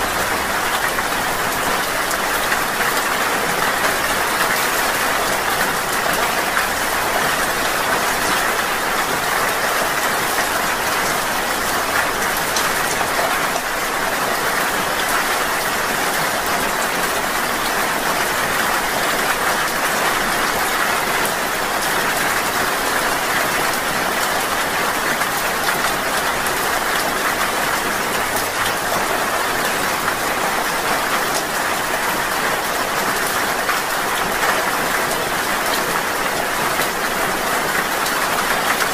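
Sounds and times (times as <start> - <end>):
rain falling steadily: 0.0 - 38.9.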